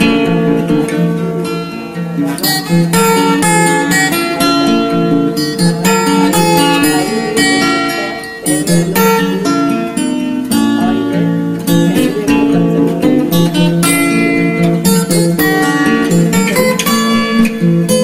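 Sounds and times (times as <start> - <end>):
plucked acoustic guitar music: 0.0 - 18.0.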